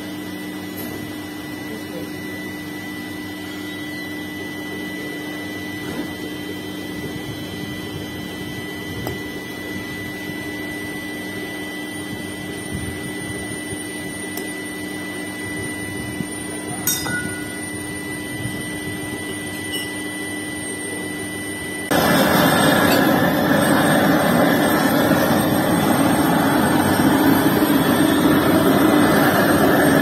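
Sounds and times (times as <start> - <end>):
fan whirring hum: 0.0 - 30.0.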